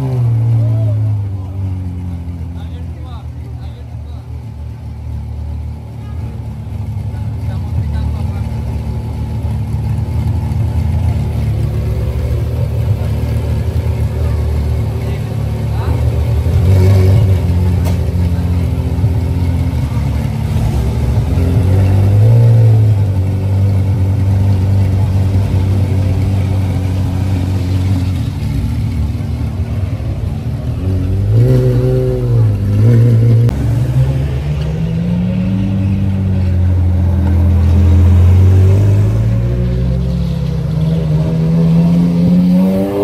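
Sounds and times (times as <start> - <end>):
sports car engine revving: 6.5 - 43.0.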